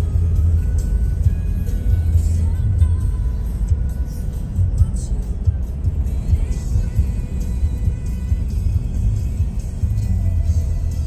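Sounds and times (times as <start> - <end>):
low steady rumble: 0.0 - 11.0
music with soft held notes: 0.0 - 11.0.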